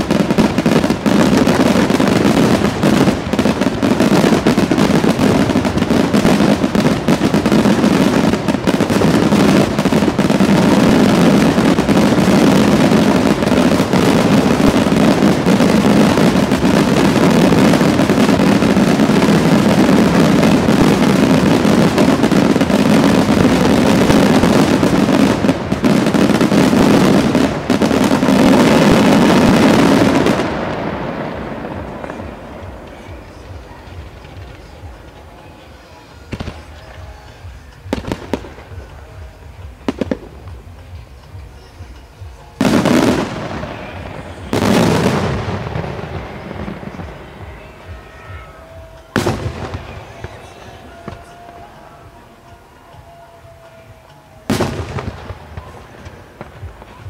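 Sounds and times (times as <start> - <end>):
fireworks bursting with crackle: 0.0 - 57.0.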